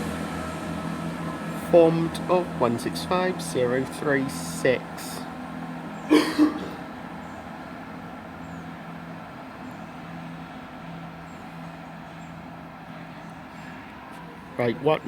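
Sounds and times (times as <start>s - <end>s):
train diesel engines humming: 0.0s - 15.0s.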